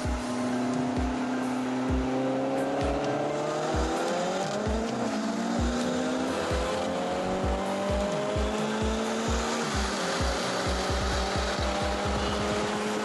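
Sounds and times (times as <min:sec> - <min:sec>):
background music with steady beat: 0:00.0 - 0:13.0
car engine accelerating hard: 0:00.0 - 0:13.0.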